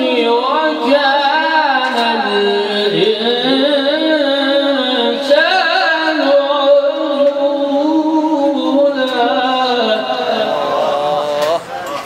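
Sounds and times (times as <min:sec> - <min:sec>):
man chanting melodic recitation: 0:00.0 - 0:11.8.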